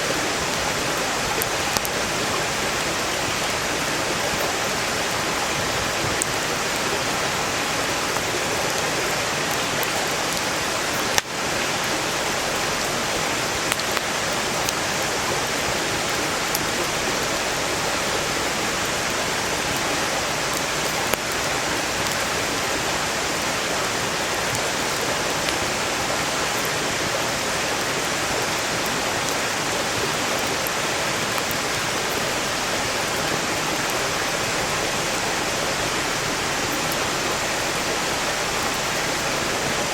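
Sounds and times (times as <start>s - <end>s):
campfire crackling: 0.0s - 39.9s
mountain stream rushing: 0.0s - 39.9s.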